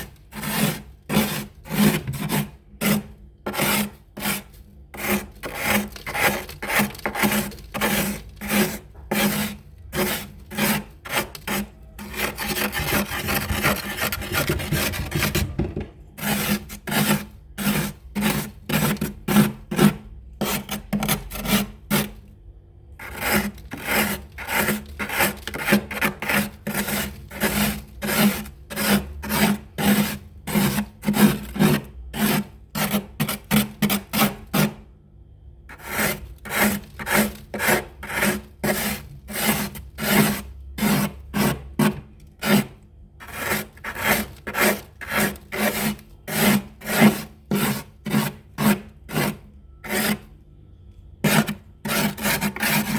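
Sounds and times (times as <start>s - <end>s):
scraping frost off freezer: 0.0s - 35.0s, 35.6s - 52.9s.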